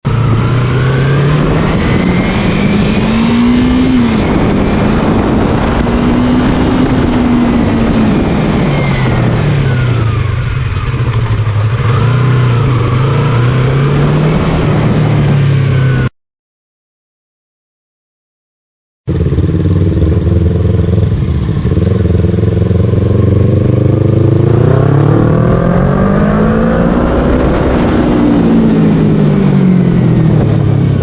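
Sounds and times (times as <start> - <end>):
motorcycle engine revving: 0.0 - 16.1, 19.1 - 31.0.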